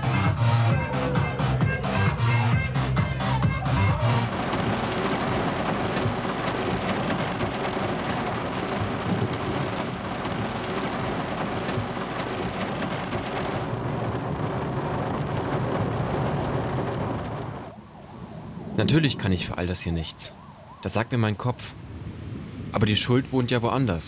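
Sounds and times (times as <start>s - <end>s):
rain on pavement and window: 0.0s - 20.4s
thunder rumbling: 0.0s - 20.4s.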